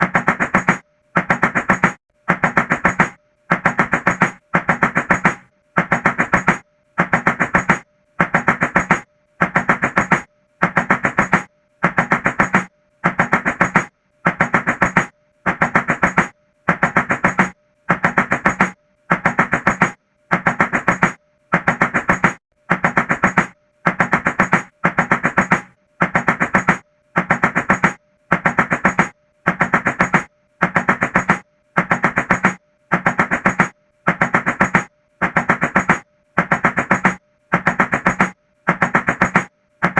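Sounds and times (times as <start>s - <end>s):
rapid knocking on a door: 0.0s - 39.9s.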